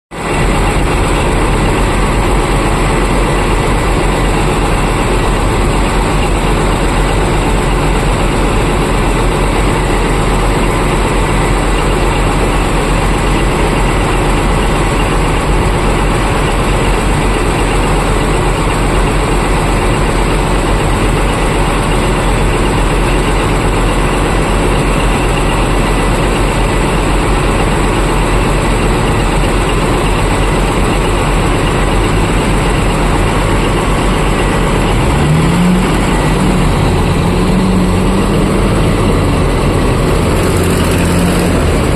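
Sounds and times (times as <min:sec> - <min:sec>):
heavy vehicle engine running: 0:00.1 - 0:41.9.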